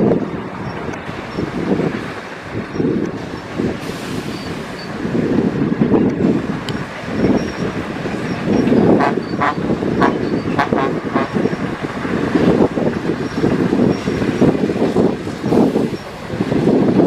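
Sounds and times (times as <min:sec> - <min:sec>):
heavy diesel engines rumbling: 0:00.0 - 0:17.0.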